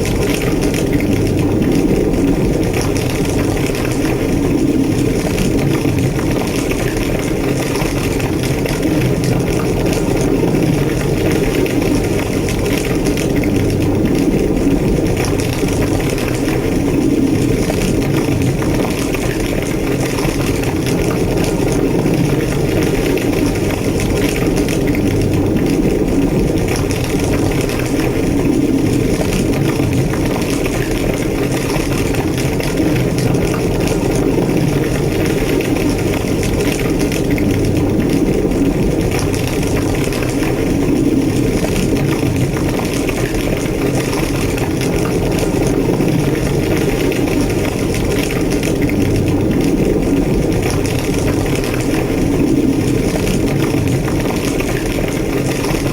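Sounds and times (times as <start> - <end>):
fire crackling: 0.0 - 55.9
fire roaring: 0.0 - 55.9.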